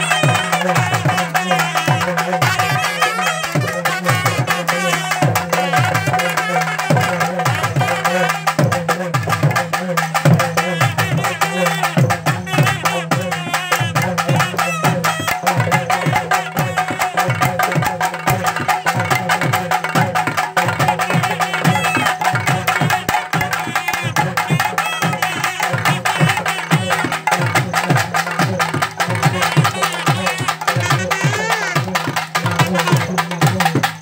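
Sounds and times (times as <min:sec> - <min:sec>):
barrel drums beating: 0:00.0 - 0:34.0.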